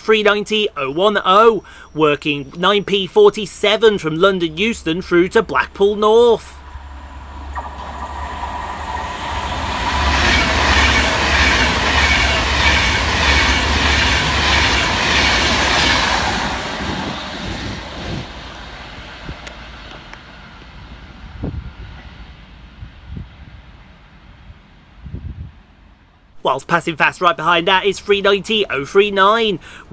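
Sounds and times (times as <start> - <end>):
electric train passing: 0.0 - 25.1, 25.7 - 29.9.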